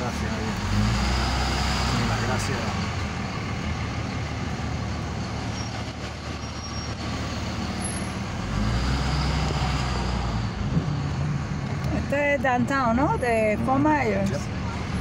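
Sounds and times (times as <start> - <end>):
truck engine hum: 0.0 - 15.0.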